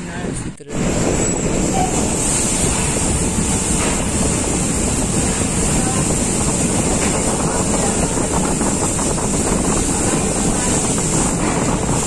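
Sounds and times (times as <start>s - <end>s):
factory machinery din: 0.0s - 12.0s.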